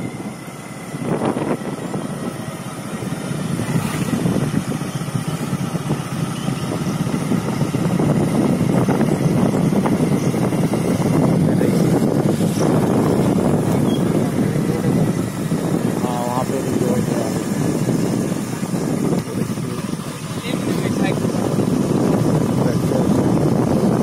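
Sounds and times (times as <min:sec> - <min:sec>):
motorcycle engine: 0:00.0 - 0:24.0
wind noise on microphone: 0:00.0 - 0:24.0.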